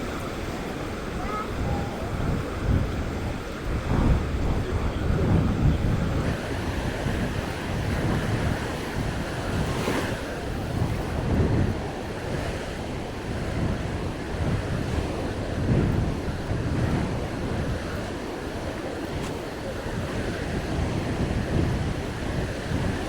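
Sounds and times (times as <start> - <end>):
waves washing on sandy beach: 0.0 - 23.0
wind buffeting microphone: 0.0 - 23.0.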